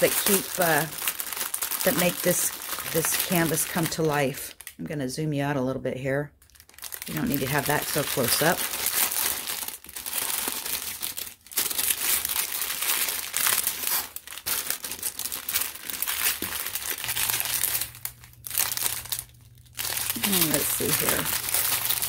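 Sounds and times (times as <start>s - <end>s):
plastic bags crinkling: 0.0s - 4.8s, 6.4s - 22.0s.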